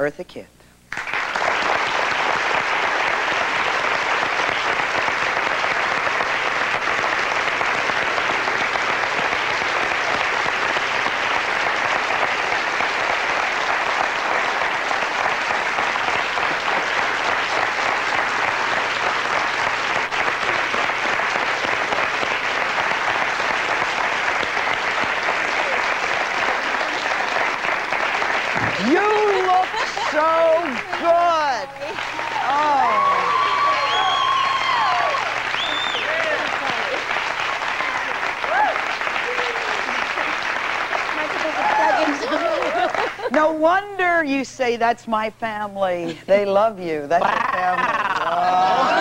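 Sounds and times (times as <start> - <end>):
studio audience applauding: 0.9 - 43.5, 47.2 - 49.0.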